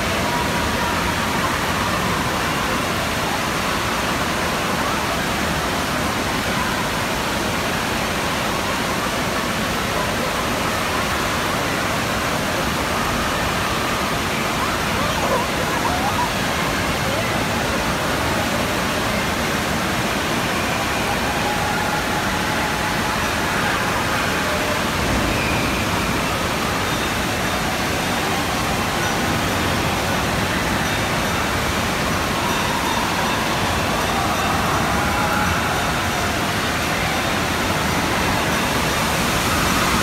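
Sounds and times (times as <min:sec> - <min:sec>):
distant crowd voices: 0:00.0 - 0:40.0
water rushing and splashing: 0:00.0 - 0:40.0.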